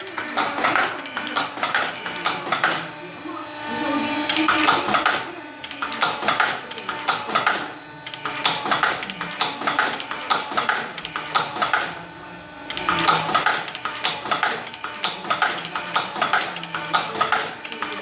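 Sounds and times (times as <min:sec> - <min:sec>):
fast mechanical clacks: 0:00.0 - 0:02.9, 0:04.3 - 0:12.0, 0:12.7 - 0:18.0
machine whine: 0:00.0 - 0:18.0.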